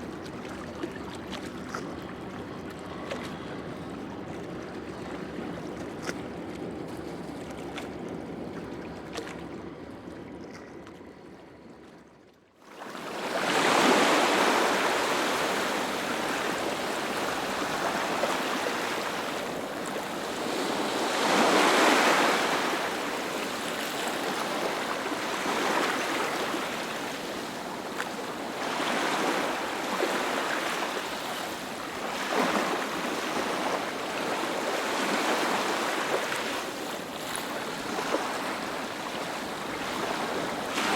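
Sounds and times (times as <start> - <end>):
waves breaking on shore: 0.0 - 9.6, 12.6 - 40.9
quieter sea sound: 0.0 - 40.9.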